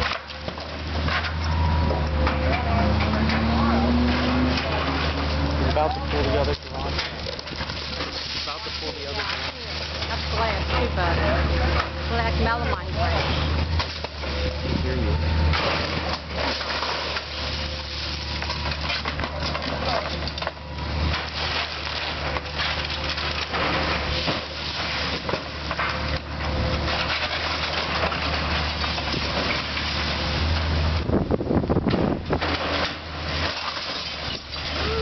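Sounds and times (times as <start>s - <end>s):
heavy demolition machinery running: 0.0s - 35.0s
wood and debris crunching and cracking: 0.0s - 35.0s.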